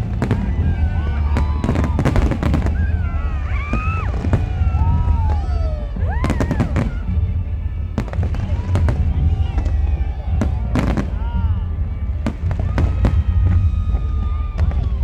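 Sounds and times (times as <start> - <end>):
fireworks banging: 0.0 - 15.0
low rumble: 0.0 - 15.0.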